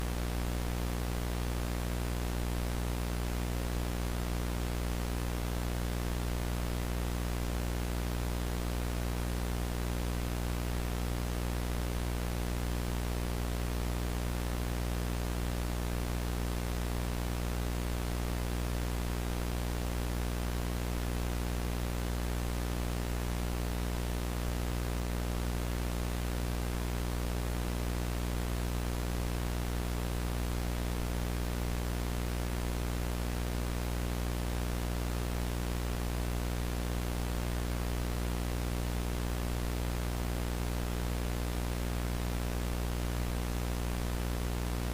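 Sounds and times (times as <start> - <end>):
low buzzing electrical hum: 0.0 - 44.9.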